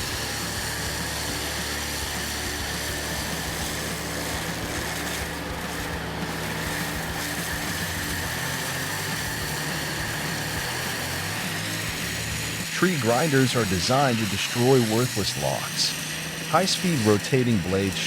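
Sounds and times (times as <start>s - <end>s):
heavy machine engine droning: 0.0s - 18.0s.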